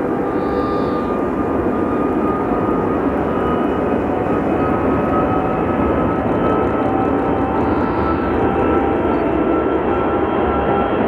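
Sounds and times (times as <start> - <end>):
jet airliner taking off: 0.0 - 11.0
thin engine whine: 0.0 - 11.0.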